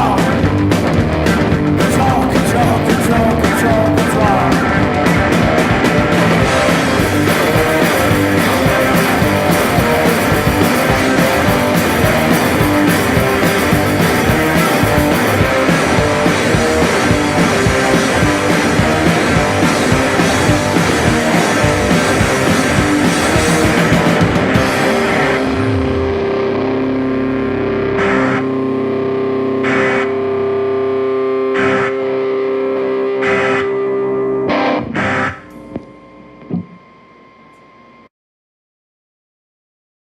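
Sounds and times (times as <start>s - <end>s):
punk rock band playing: 0.0s - 35.4s.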